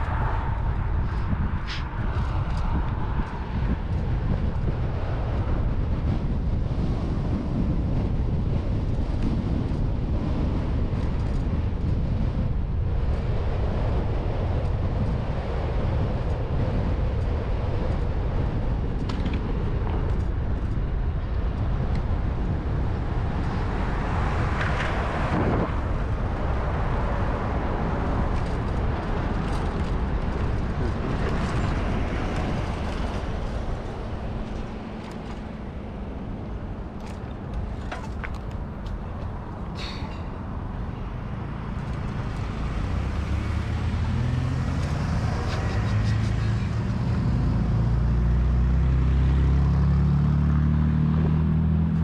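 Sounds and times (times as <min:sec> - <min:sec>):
road traffic passing: 0:00.0 - 0:52.0
wind rumbling on microphone: 0:00.0 - 0:52.0.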